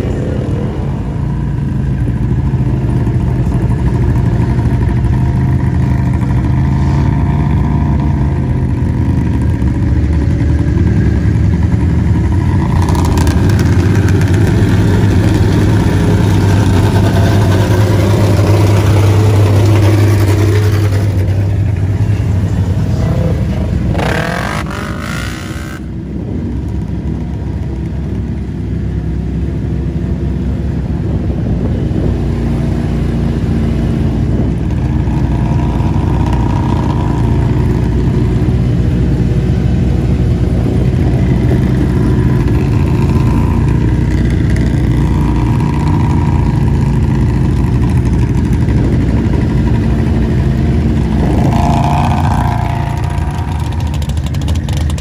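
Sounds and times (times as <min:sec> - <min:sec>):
vehicle engine revving: 0:00.0 - 0:26.4, 0:29.8 - 0:55.0.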